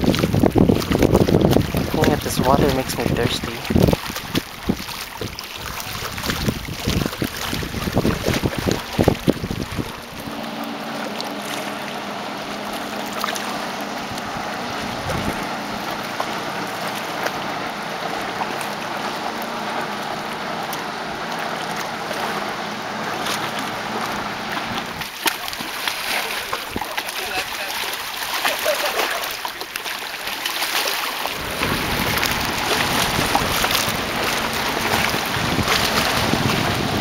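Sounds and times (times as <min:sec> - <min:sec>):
distant motorboat engines: 0:00.0 - 0:37.0
waves lapping against rocks: 0:00.0 - 0:37.0.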